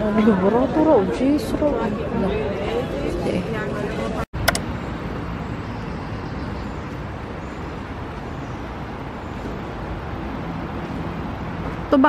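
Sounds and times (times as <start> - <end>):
road vehicle noise: 0.0 - 12.0.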